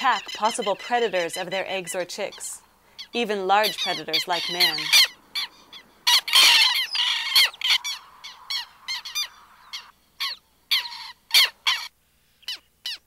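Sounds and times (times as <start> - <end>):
lapwings calling harshly: 0.0 - 13.0.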